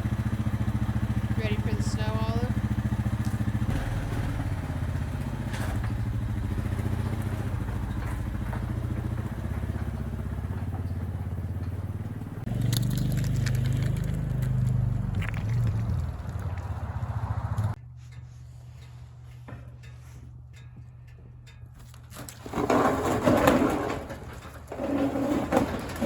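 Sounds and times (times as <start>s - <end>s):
engine running steadily: 0.0s - 22.8s.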